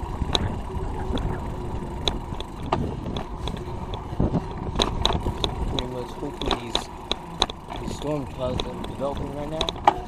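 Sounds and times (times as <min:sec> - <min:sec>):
tyre road rumble: 0:00.0 - 0:10.0
wind buffeting microphone: 0:00.0 - 0:10.0
light clicks and rattles: 0:00.2 - 0:10.0.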